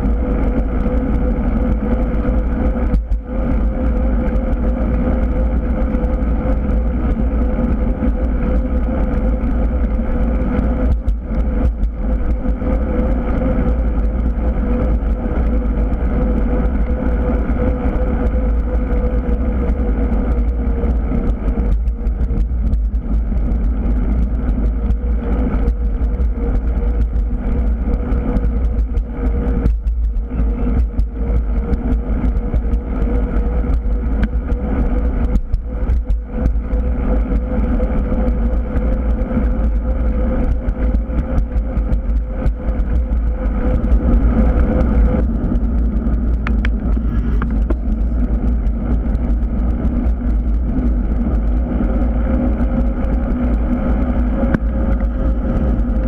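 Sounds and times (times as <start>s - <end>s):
steady hum: 0.0s - 56.0s
tyres on asphalt: 0.0s - 56.0s
wind rumble on microphone: 0.0s - 56.0s.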